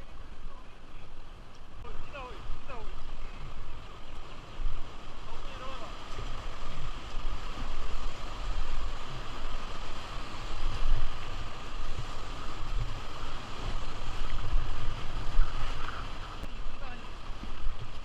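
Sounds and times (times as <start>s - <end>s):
river water rushing and splashing: 0.0s - 18.0s
wind buffeting microphone: 0.0s - 18.0s.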